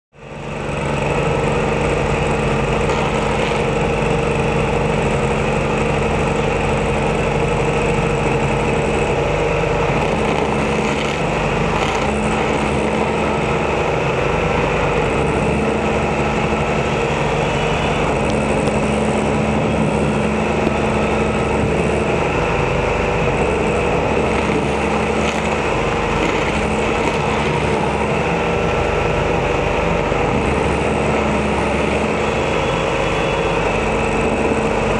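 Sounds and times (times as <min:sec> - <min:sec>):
stump grinder engine running: 0:00.2 - 0:34.9
cutter wheel grinding stump: 0:00.4 - 0:34.9.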